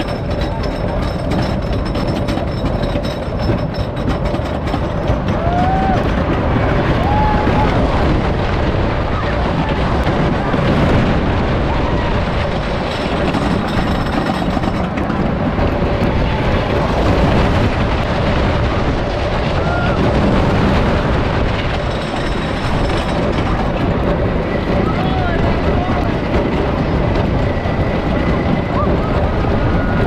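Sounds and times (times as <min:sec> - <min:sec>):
roller coaster rumbling on track: 0:00.0 - 0:30.0
wind rushing: 0:04.8 - 0:30.0.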